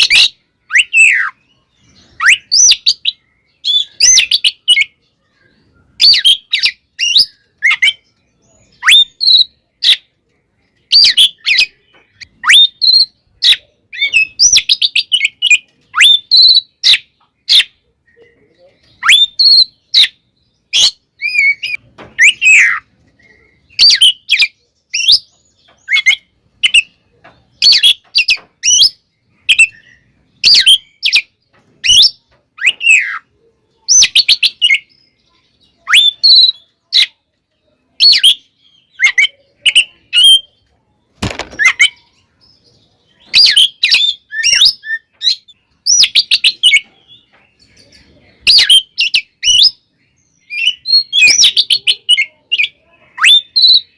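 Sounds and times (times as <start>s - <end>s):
bird singing loudly: 0.0s - 10.0s, 10.9s - 17.8s, 18.8s - 27.0s, 27.6s - 37.2s, 43.1s - 47.3s, 48.4s - 53.9s.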